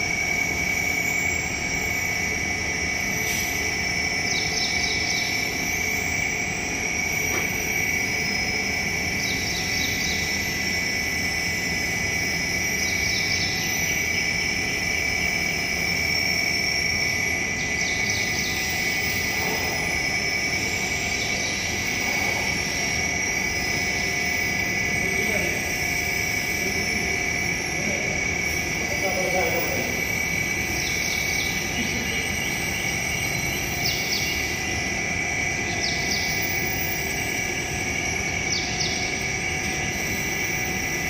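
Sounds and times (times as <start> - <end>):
high motor whine: 0.0 - 41.0
scissor lift motor droning: 0.0 - 41.0.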